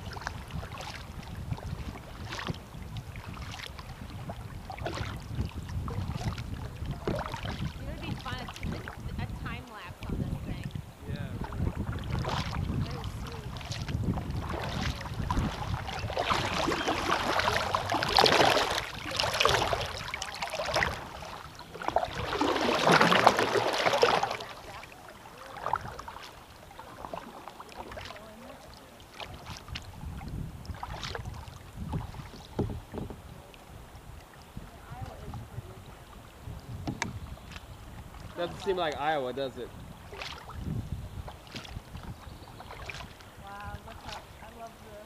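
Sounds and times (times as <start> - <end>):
kayak paddle pulled through water: 0.0 - 45.0
rushing splashing water: 0.0 - 45.0
water dripping and lapping: 0.0 - 45.0.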